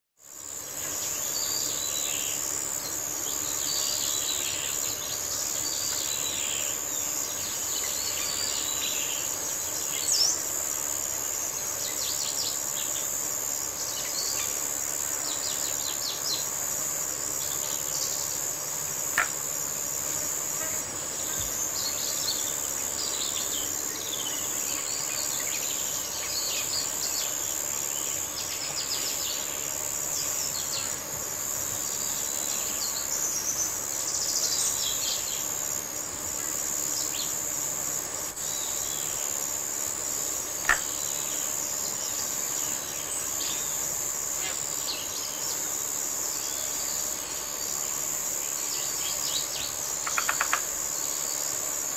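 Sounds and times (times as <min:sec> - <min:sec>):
insect drone: 0:00.2 - 0:51.9.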